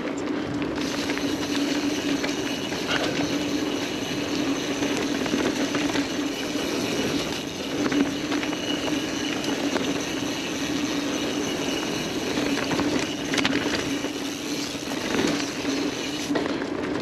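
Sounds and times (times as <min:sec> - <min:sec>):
bike rattling over bumps: 0:00.0 - 0:17.0
bike tyres on dirt trail: 0:00.0 - 0:17.0
constant hum: 0:00.0 - 0:17.0.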